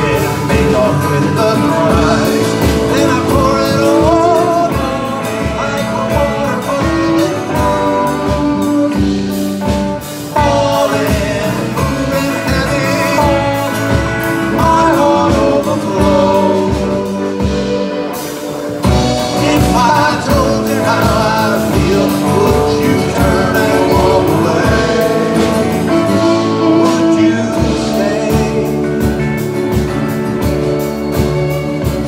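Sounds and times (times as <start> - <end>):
acoustic guitar: 0.0 - 32.0
bass guitar: 0.0 - 32.0
drum kit: 0.0 - 32.0
electric guitar: 0.0 - 32.0
violin: 0.0 - 32.0.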